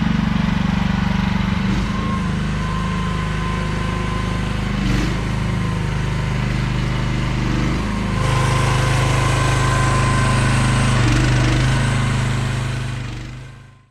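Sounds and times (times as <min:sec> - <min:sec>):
small engine running: 0:00.0 - 0:13.9.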